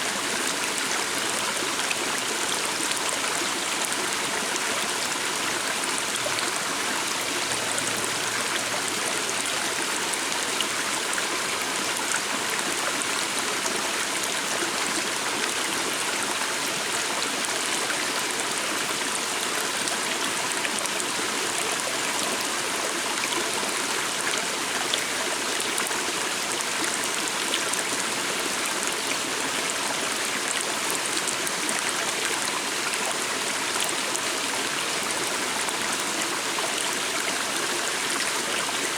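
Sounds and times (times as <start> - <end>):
water babbling over rocks: 0.0 - 38.9.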